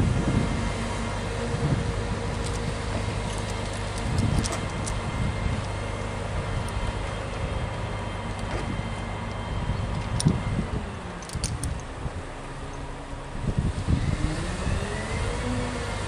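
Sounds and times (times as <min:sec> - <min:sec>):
engine idling hum: 0:00.0 - 0:16.0.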